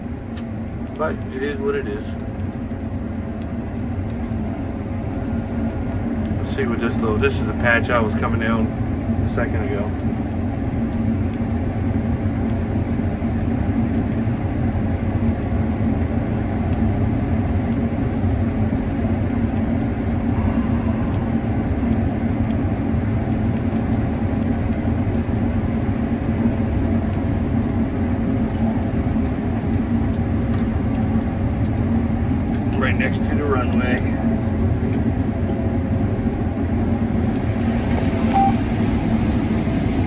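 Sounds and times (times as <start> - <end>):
combine harvester machinery drone: 0.0 - 40.0.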